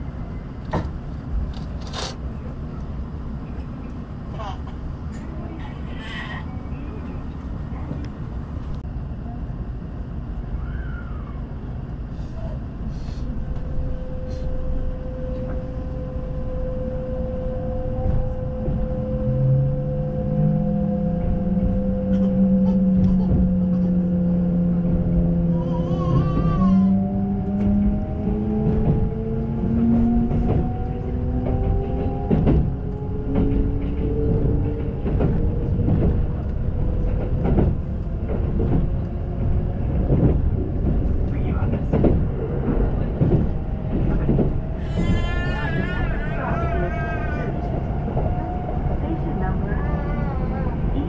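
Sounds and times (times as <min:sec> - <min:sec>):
electric train rumbling: 0:00.0 - 0:51.0.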